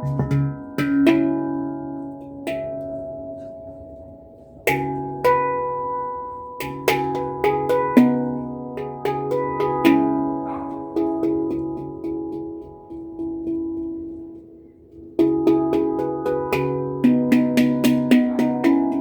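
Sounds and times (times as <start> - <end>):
handpan notes ringing: 0.0 - 19.0.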